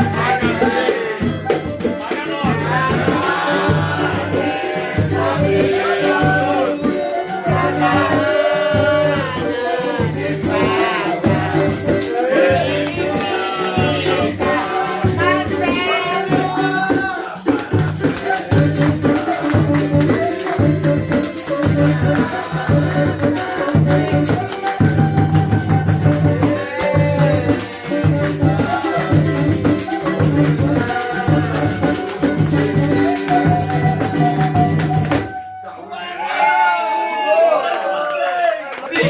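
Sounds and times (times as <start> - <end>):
rapid rattling percussion: 0.0 - 35.4.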